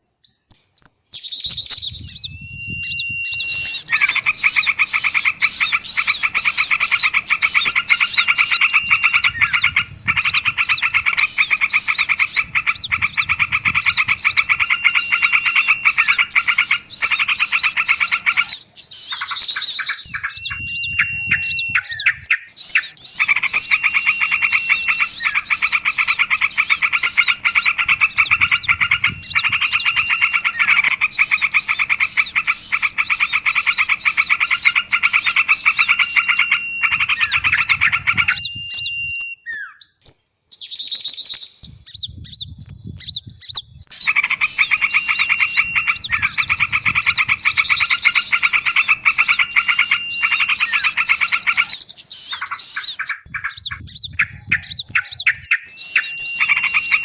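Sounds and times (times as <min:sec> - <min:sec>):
high squeaky bird chirps: 0:00.0 - 0:57.0
bird chattering trill: 0:01.2 - 0:39.7, 0:41.0 - 0:57.0.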